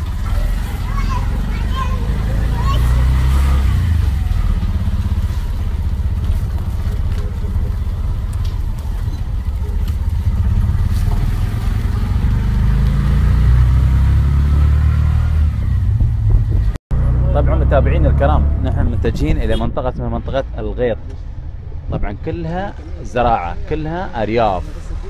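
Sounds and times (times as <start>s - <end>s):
auto-rickshaw engine droning: 0.0s - 23.6s.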